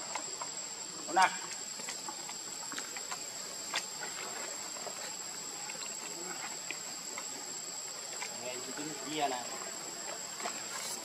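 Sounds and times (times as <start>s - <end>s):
insects chorus drone: 0.0s - 11.0s.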